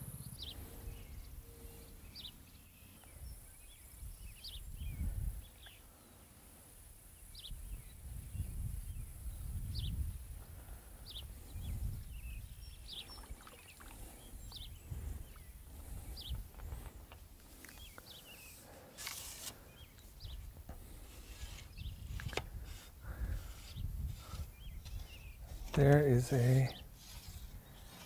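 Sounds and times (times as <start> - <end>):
bird chirping: 0.0 - 6.2, 10.9 - 28.0.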